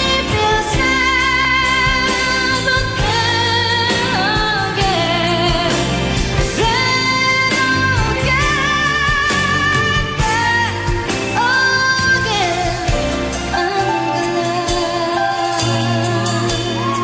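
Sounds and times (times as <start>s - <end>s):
band accompaniment: 0.0s - 17.0s.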